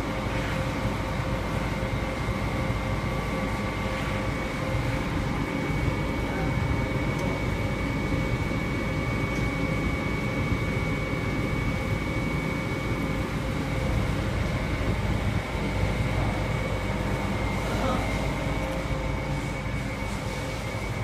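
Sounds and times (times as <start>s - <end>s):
industrial machine drone: 0.0s - 21.0s.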